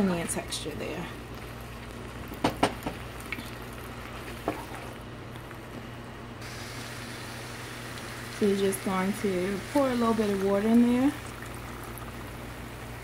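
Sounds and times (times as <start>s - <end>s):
sauce simmering in a pan: 1.2s - 5.8s, 6.4s - 13.0s.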